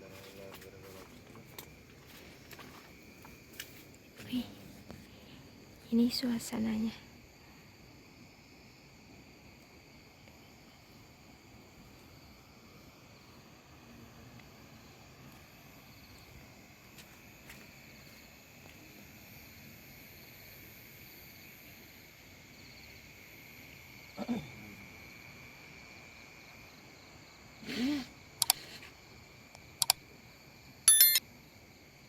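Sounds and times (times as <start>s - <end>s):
night insects chirring: 0.0s - 32.0s.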